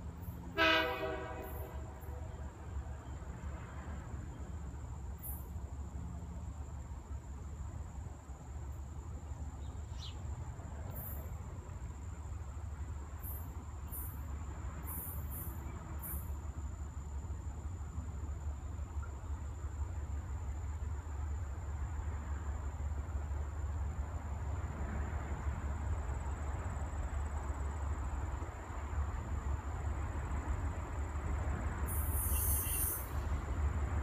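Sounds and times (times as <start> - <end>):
diesel locomotive rumble: 0.0 - 34.0
insects chirping: 0.0 - 34.0.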